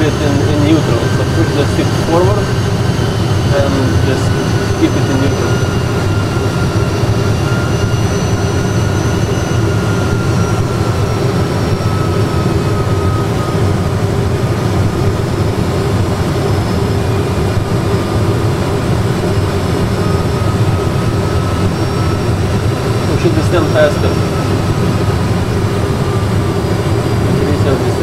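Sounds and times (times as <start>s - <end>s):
high engine whine: 0.0s - 28.0s
low rumble of engines and airflow: 0.0s - 28.0s.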